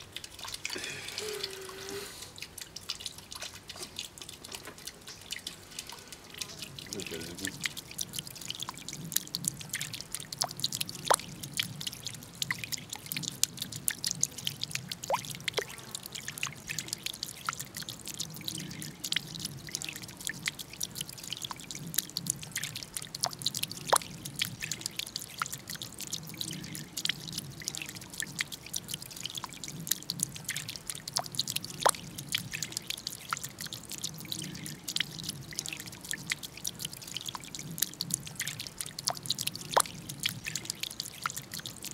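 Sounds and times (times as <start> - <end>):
fountain water dripping and splashing: 0.0 - 41.9.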